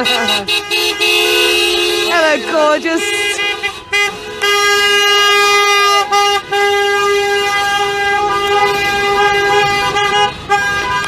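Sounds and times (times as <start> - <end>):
car horns blasting: 0.0 - 11.0.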